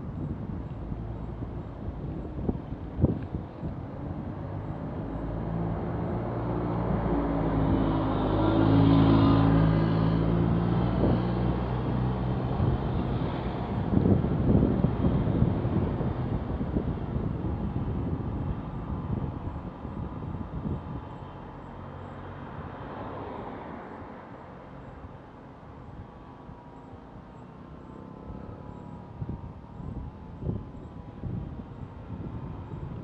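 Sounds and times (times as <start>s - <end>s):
wind noise on camera: 0.0s - 24.3s, 24.9s - 33.0s
road noise: 0.0s - 33.0s
vehicle passing rumble: 0.0s - 33.0s.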